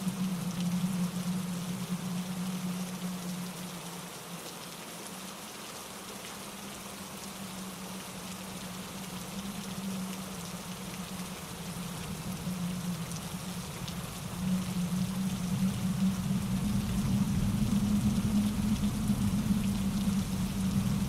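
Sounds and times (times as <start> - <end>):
steady rain falling: 0.0 - 21.0
stream tumbling over rocks: 0.0 - 21.0
wind through trees: 0.0 - 21.0.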